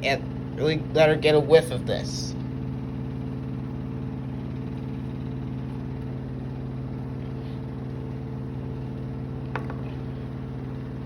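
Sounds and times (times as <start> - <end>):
steady electric hum: 0.0 - 11.0.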